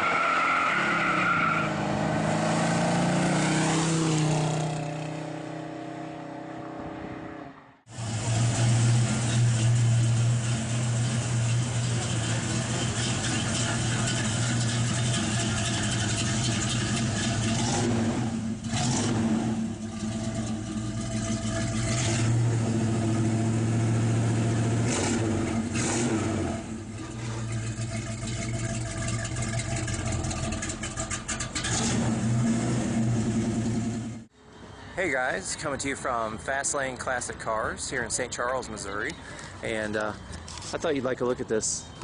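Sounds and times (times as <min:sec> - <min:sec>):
car engine revving: 0:00.0 - 0:34.3.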